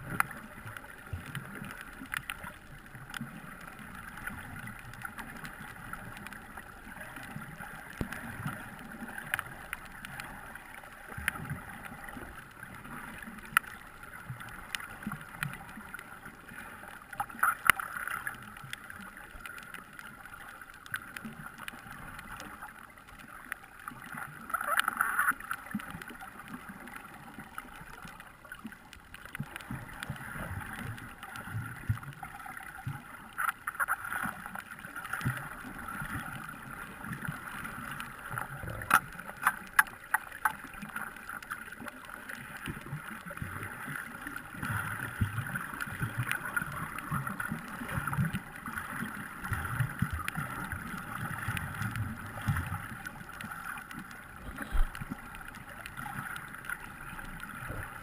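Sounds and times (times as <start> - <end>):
low underwater rumbles: 0.0 - 58.0
rushes of water noise: 0.0 - 58.0
underwater water wash: 0.0 - 58.0.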